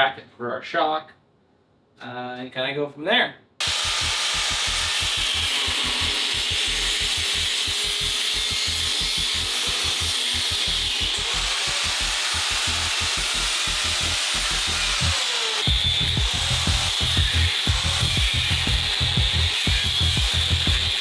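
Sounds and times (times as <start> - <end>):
power tool cutting steel tubing: 3.6 - 21.0.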